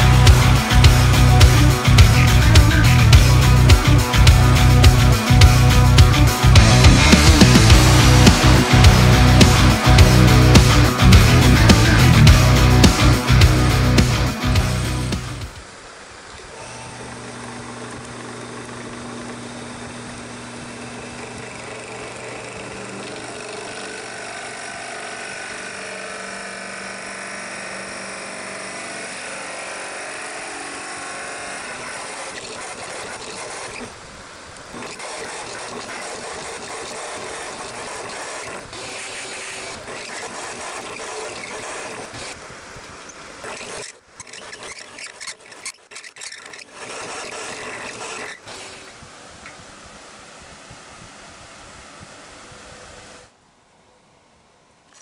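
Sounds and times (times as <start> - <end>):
drill bit rasping into wood: 0.0 - 15.5, 16.6 - 49.6
drill press motor hum: 0.0 - 53.4.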